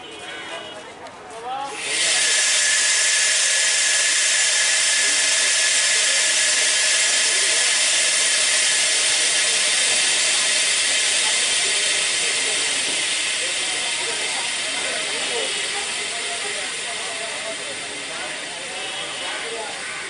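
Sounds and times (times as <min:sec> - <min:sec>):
passenger train passing: 0:01.7 - 0:19.9.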